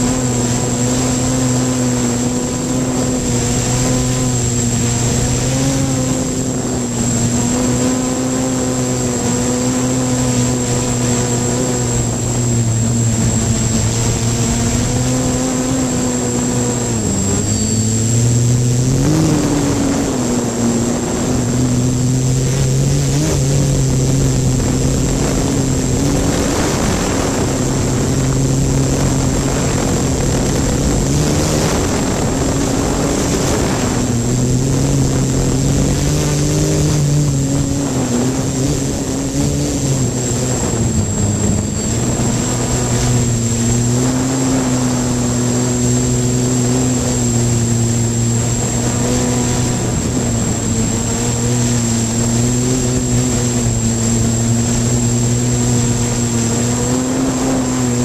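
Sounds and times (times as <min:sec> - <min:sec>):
drone motors and propellers: 0:00.0 - 0:58.0
high whine: 0:00.0 - 0:58.0.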